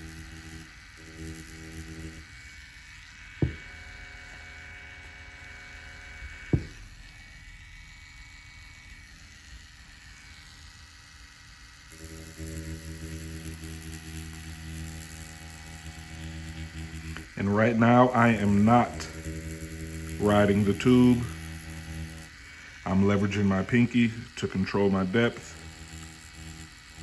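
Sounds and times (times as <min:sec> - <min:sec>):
tattoo machine humming: 0:00.0 - 0:27.0.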